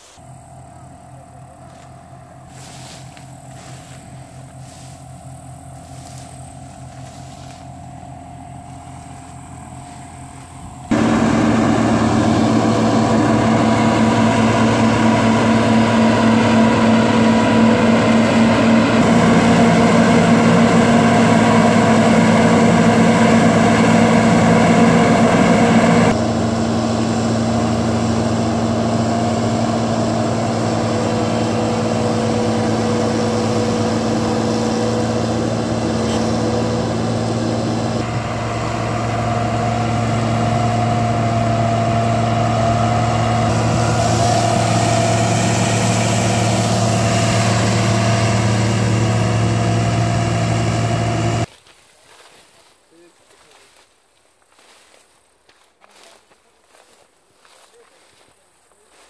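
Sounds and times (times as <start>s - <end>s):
diesel engine running: 0.0s - 53.8s, 54.5s - 59.0s.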